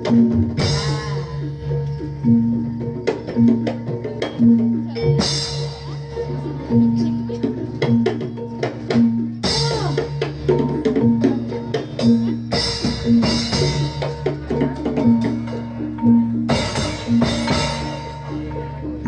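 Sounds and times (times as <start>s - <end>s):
drums and tuned percussion: 0.0s - 19.0s.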